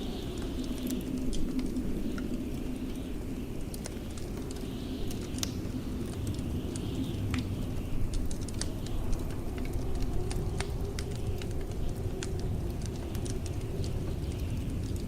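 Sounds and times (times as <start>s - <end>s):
blizzard wind rumbling: 0.0s - 15.0s
wood fire crackling and popping: 0.0s - 15.0s.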